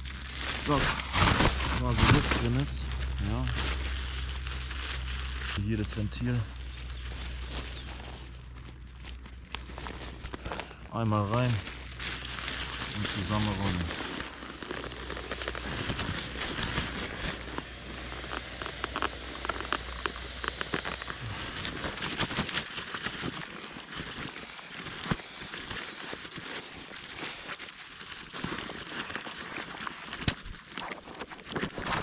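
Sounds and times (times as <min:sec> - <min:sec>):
nylon sack crinkling and rustling: 0:00.0 - 0:32.0.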